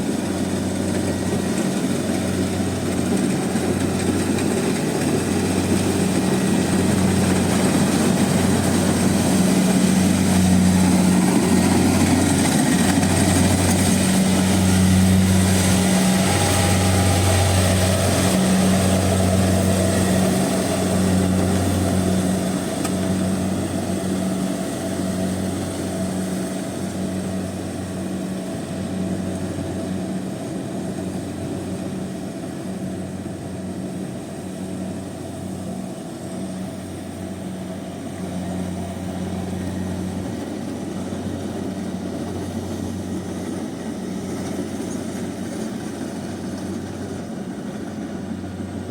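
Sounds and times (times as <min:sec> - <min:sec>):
combine harvester engine hum: 0:00.0 - 0:48.9.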